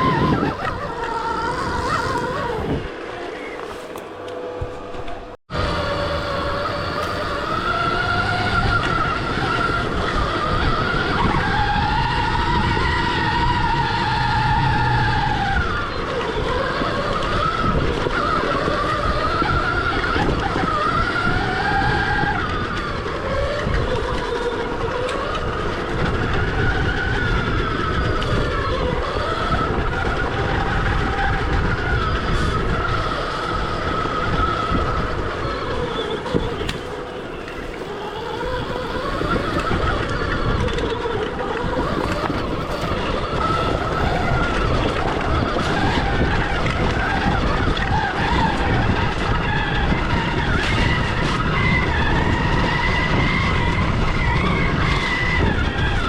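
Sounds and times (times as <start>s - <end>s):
electric motorbike motor whining: 0.0s - 56.0s
low rumbling noise: 0.0s - 56.0s.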